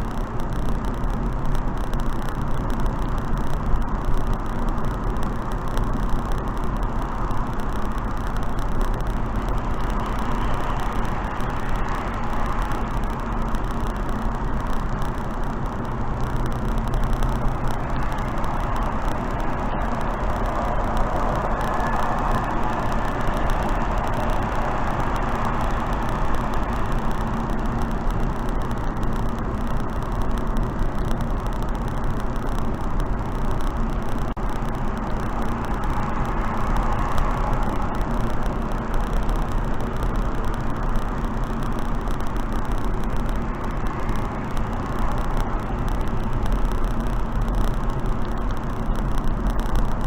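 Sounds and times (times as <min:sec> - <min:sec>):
wind and road noise of car: 0:00.0 - 0:50.0.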